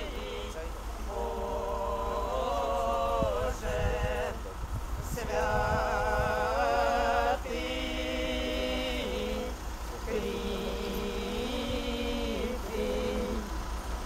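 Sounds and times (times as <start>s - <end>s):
voices singing a slow chant: 0.0s - 14.0s.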